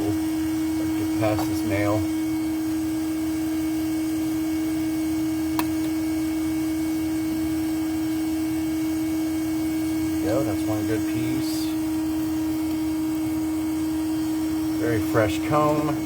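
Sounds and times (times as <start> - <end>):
electric motor hum: 0.0 - 16.0.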